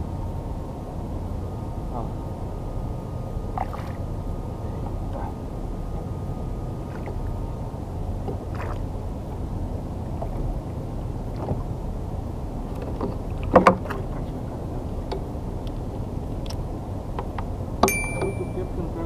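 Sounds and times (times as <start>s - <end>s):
water and wind washing: 0.0s - 19.0s.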